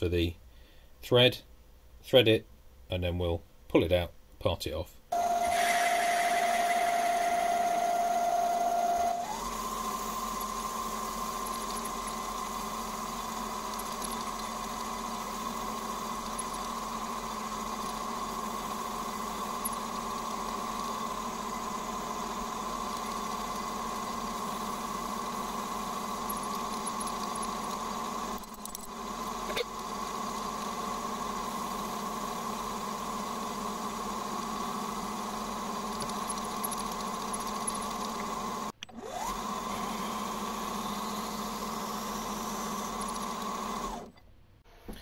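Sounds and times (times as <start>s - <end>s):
metal lathe motor whine: 5.2s - 44.1s.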